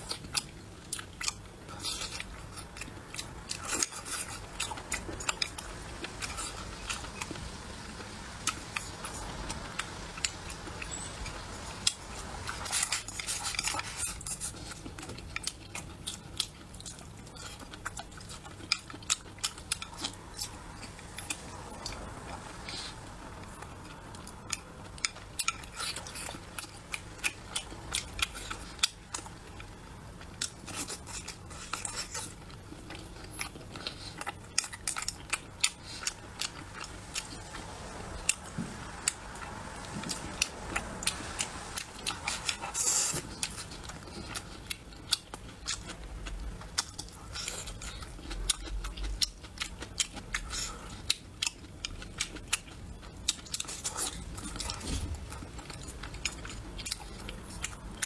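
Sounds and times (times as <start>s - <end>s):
chewing and mouth sounds: 0.0s - 58.0s.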